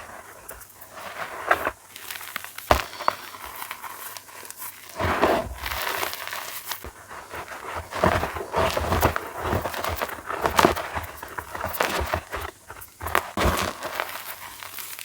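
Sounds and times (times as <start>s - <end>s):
chalk crunching: 0.0s - 15.0s.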